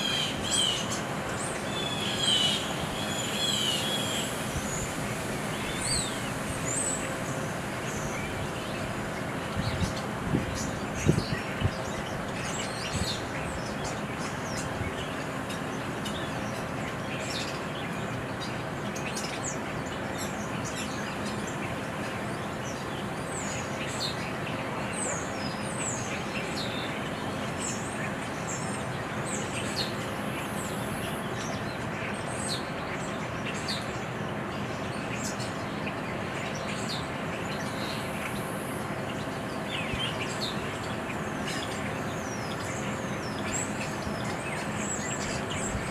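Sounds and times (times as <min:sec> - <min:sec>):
small birds chirping: 0:00.0 - 0:45.9
steady background hum: 0:00.0 - 0:45.9.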